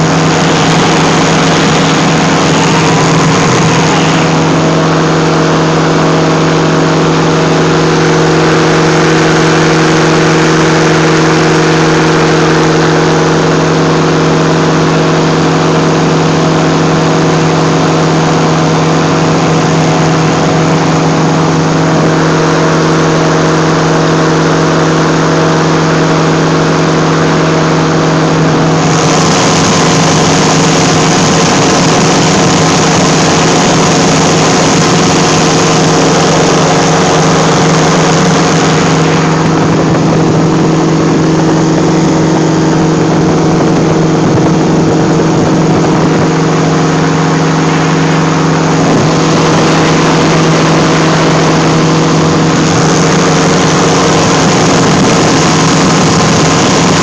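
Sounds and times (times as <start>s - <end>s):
engine and propeller running: 0.0s - 57.0s
rushing wind: 0.0s - 57.0s.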